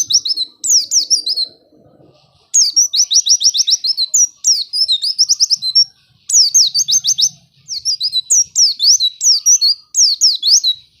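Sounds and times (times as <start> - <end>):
bird song of sliding chirps: 0.0 - 11.0.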